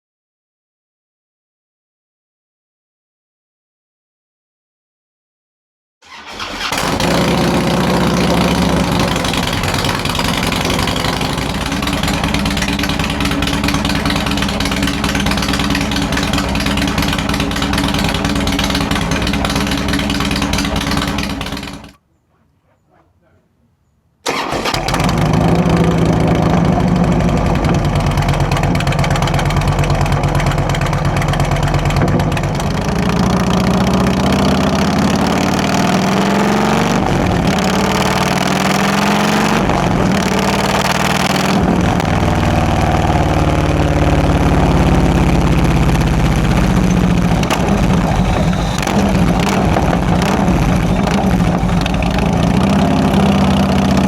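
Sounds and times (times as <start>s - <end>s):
motorcycle engine idling and revving: 6.0s - 22.0s, 24.3s - 54.0s.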